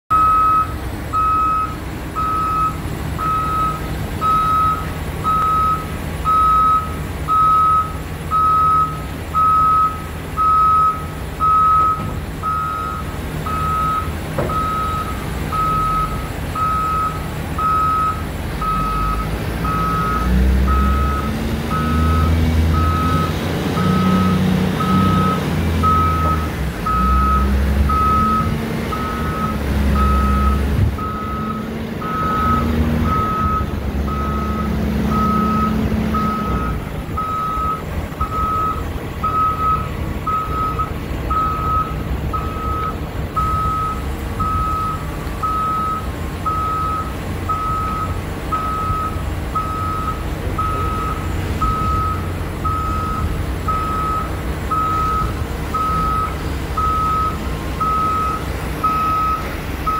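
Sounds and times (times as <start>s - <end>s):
backup alarm beeping: 0.1s - 59.9s
forklift engine running: 0.1s - 59.9s.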